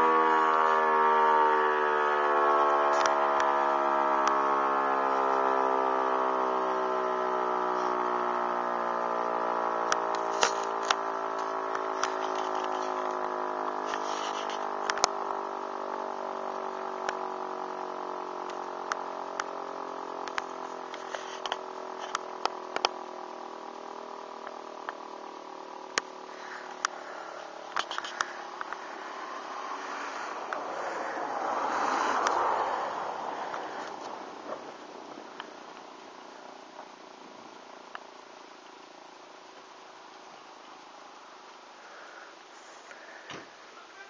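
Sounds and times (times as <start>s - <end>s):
motor siren winding down: 0.0s - 38.5s.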